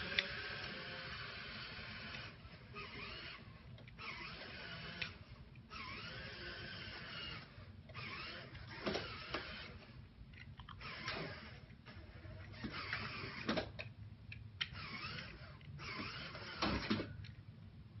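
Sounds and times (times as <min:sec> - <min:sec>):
toy truck motors whirring: 0:00.0 - 0:10.0, 0:10.7 - 0:13.9, 0:14.6 - 0:17.2.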